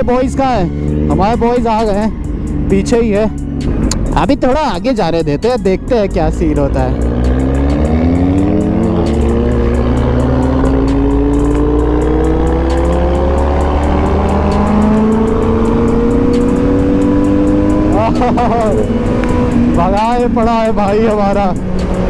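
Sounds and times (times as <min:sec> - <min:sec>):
motorcycle engine accelerating: 0:00.0 - 0:04.4, 0:05.6 - 0:22.0.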